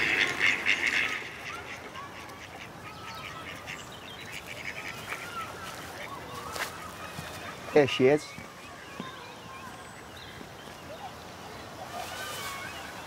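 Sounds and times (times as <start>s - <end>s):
ducks quacking faintly: 0.0s - 13.0s.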